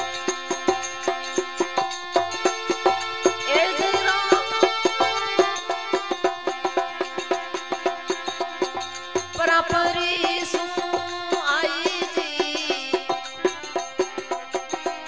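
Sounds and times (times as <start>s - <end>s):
dholak drum beat: 0.0s - 15.0s.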